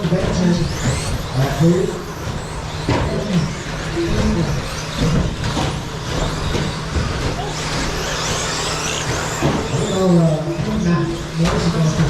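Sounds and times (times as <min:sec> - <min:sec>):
electric rc truck motor whine: 0:00.0 - 0:12.0.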